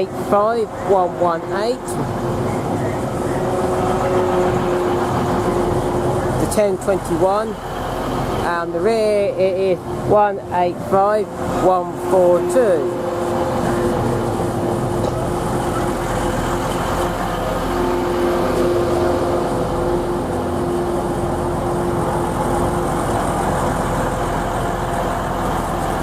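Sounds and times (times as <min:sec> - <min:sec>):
train diesel engines humming: 0:00.0 - 0:26.0.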